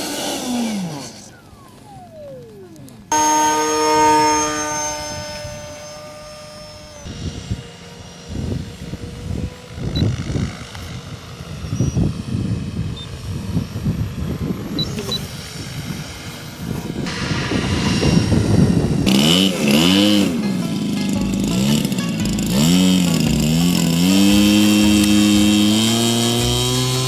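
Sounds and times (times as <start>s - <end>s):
model airplane engine running: 0.0s - 27.0s.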